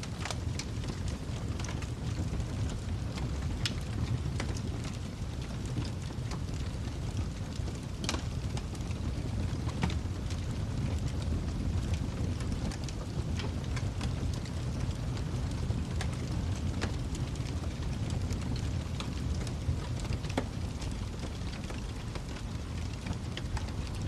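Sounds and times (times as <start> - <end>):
fire crackles and pops: 0.0 - 24.0
low fire rumble: 0.0 - 24.0.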